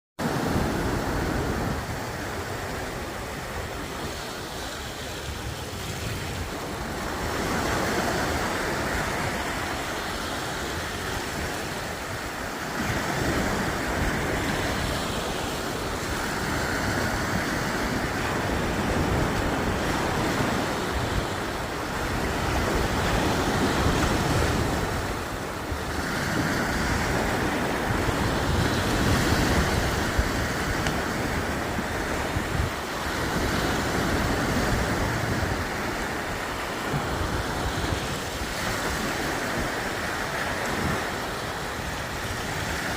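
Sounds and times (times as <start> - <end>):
sea waves washing ashore: 0.2 - 42.9
wind rumbling on microphone: 0.2 - 42.9.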